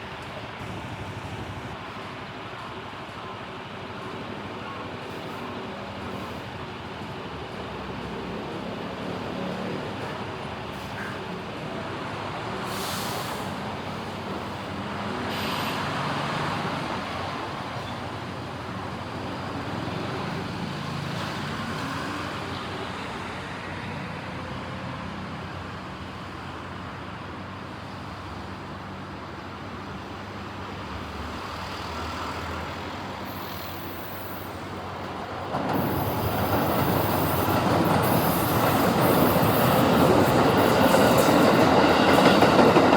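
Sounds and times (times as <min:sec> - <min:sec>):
train on track: 0:00.0 - 0:42.9
road traffic with vehicles passing: 0:05.0 - 0:42.9.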